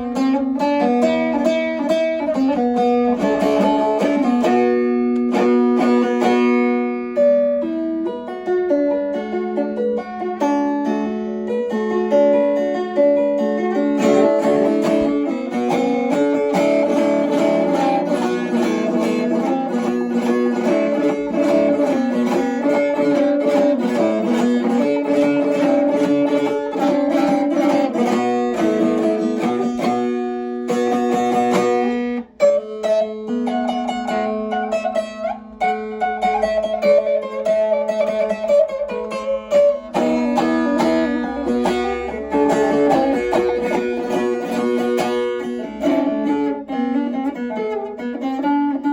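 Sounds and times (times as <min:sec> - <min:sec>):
plucked saz melody: 0:00.0 - 0:48.9.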